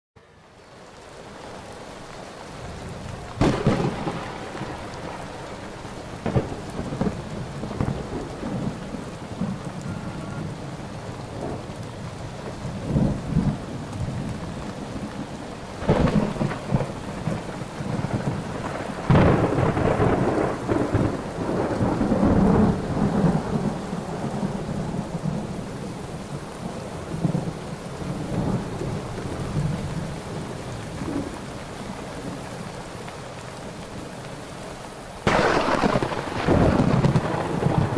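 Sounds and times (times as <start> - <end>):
rain falling steadily: 0.2 - 37.9
thunderclaps rumbling: 2.6 - 32.4, 35.2 - 37.9.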